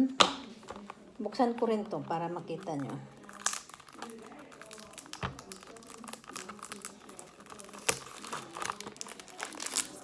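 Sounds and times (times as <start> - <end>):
packaging crinkling: 0.6 - 10.0.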